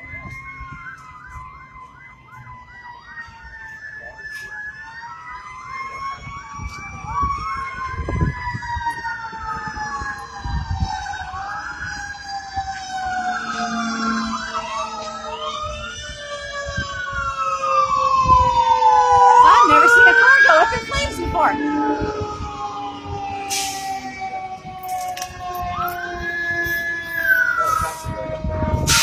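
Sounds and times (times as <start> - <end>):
emergency sirens wailing: 0.0 - 29.0.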